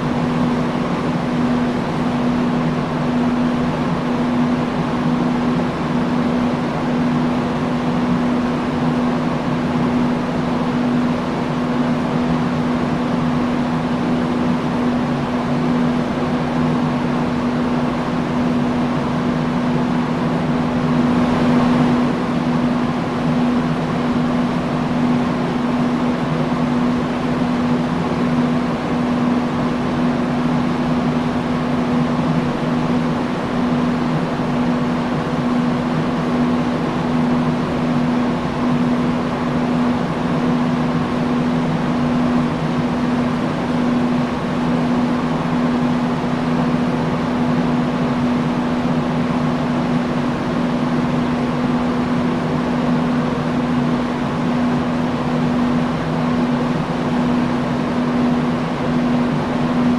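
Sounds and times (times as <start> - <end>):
fan motor hum: 0.0 - 59.9
industrial fan rushing air: 0.0 - 59.9.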